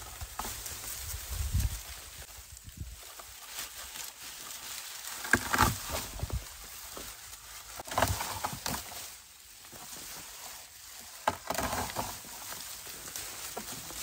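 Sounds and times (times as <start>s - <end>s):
dry vines rustling and snapping: 0.0s - 14.0s.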